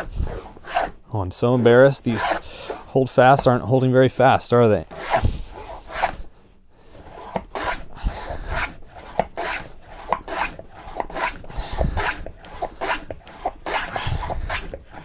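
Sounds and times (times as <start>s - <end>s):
hand plane rasping through wood: 0.0s - 3.0s, 4.9s - 6.2s, 7.0s - 15.0s.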